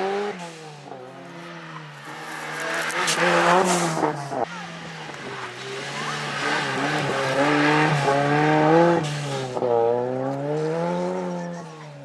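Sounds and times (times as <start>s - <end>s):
rally car engine accelerating hard: 0.0s - 12.0s.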